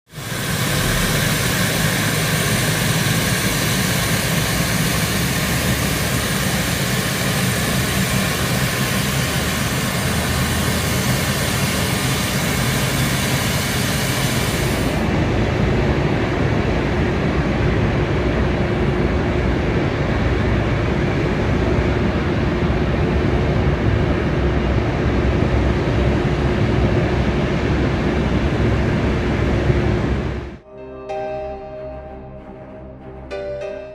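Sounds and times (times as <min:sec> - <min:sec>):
aircraft engine noise: 0:00.1 - 0:30.6
steady low hum: 0:00.1 - 0:33.9.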